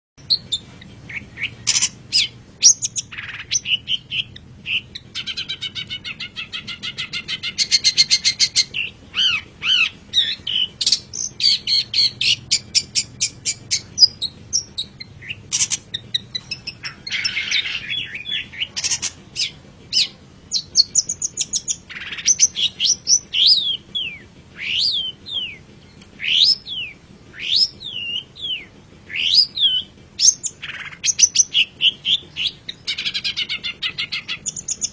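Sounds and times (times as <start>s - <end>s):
shrike singing: 0.2s - 34.9s.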